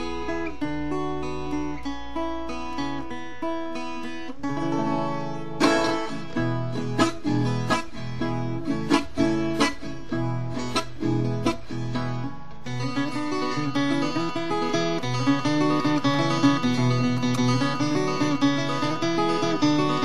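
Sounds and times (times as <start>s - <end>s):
plucked guitar notes: 0.0s - 20.0s
strummed guitar strokes: 0.0s - 20.0s.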